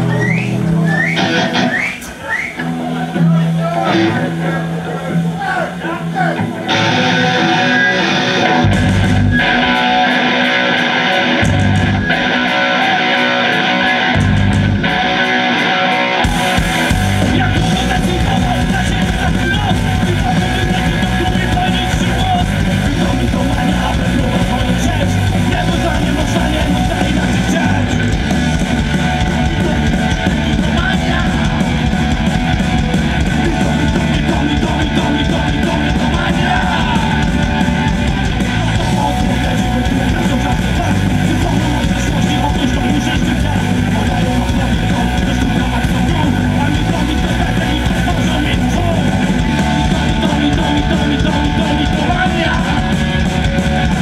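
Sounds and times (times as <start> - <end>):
electric guitar: 0.0 - 54.0
punk rock band playing: 0.0 - 54.0.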